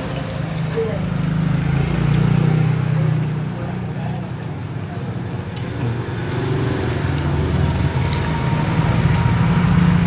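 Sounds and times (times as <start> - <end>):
motor vehicle engine running: 0.0 - 10.0.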